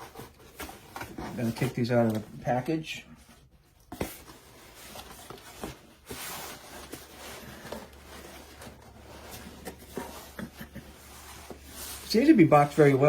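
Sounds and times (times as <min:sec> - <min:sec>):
packaging rustling and scraping: 0:00.0 - 0:13.0.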